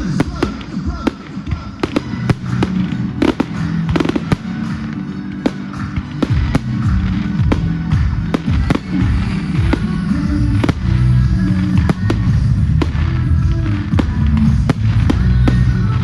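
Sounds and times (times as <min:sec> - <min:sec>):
fireworks bangs and cracks: 0:00.0 - 0:16.0
music playing: 0:00.0 - 0:16.0.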